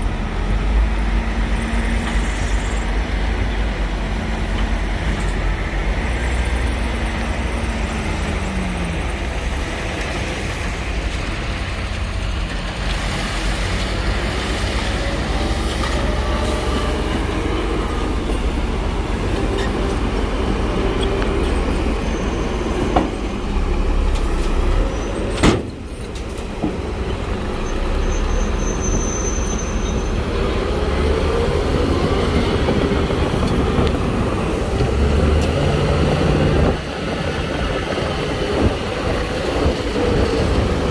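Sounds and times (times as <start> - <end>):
heavy diesel machinery rumbling: 0.0 - 40.9.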